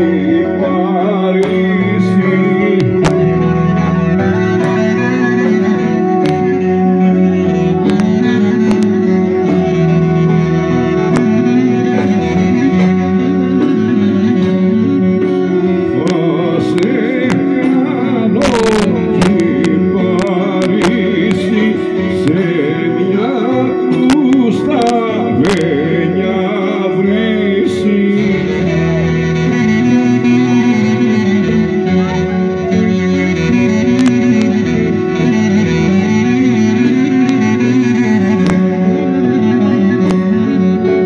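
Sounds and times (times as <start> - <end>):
folk dance music with singing: 0.0 - 41.0.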